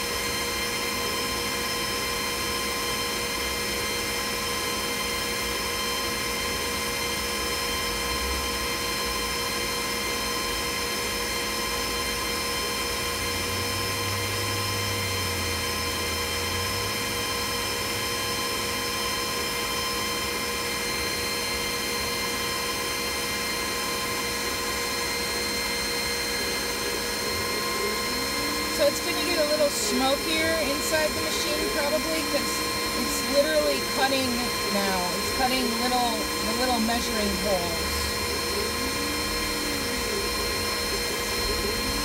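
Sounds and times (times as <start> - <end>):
laser cutter fans whirring: 0.0 - 42.0.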